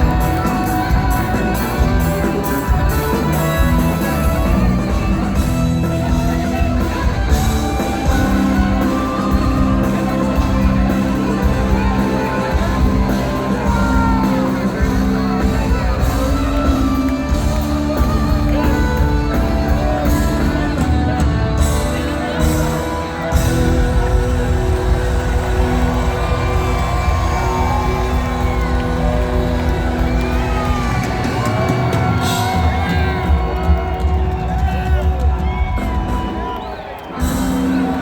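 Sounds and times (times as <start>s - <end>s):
drum beat: 0.0s - 38.0s
live band playing: 0.0s - 38.0s.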